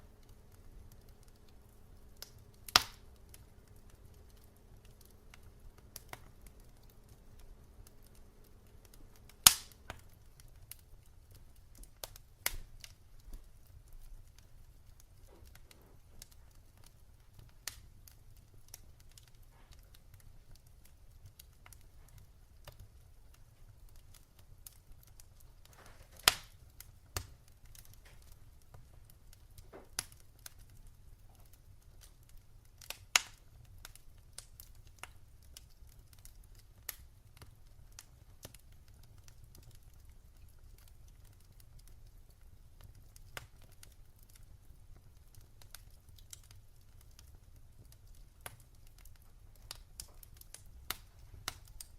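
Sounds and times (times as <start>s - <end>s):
fire popping: 0.0s - 51.9s
wood fire crackling: 0.0s - 51.9s.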